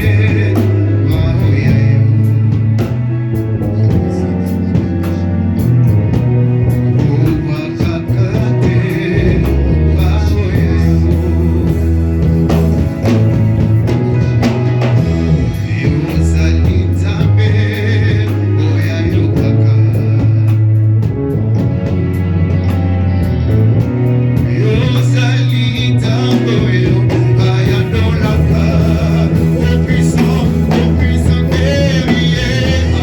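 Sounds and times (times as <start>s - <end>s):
person singing: 0.0s - 33.0s
steady drum beat: 0.0s - 33.0s
worship band playing: 0.0s - 33.0s.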